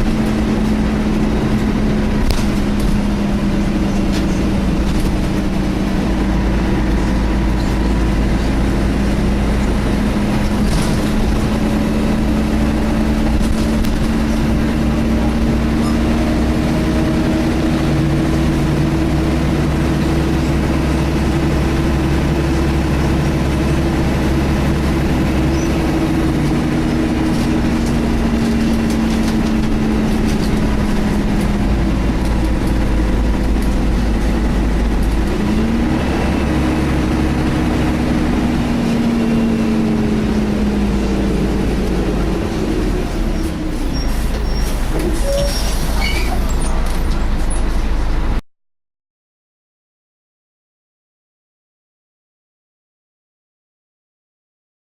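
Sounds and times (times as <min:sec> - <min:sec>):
low engine rumble: 0:00.0 - 0:48.4.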